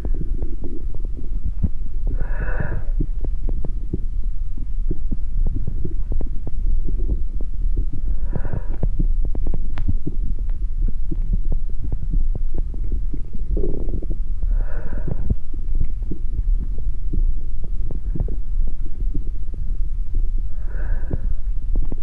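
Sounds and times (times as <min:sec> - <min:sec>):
dense low rumble: 0:00.0 - 0:22.0.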